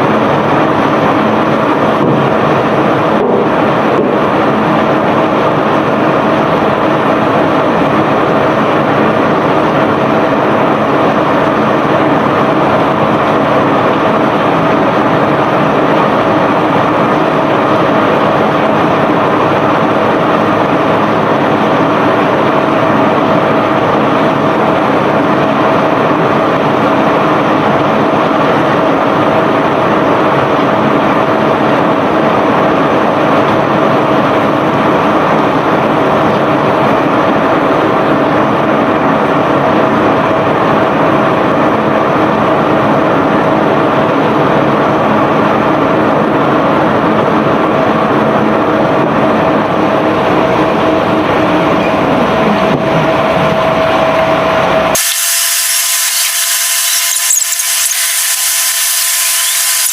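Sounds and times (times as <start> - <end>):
machinery rumble: 0.0 - 59.9
machinery whine: 0.0 - 59.9.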